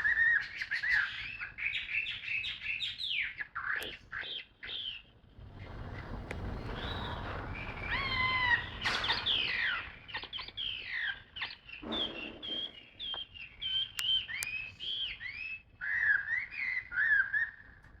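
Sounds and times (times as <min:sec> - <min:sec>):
songbird singing: 0:00.0 - 0:17.6.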